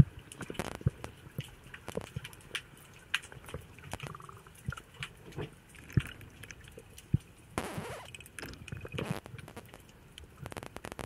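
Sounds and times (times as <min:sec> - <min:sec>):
underwater clicks and crackles: 0:00.0 - 0:11.0.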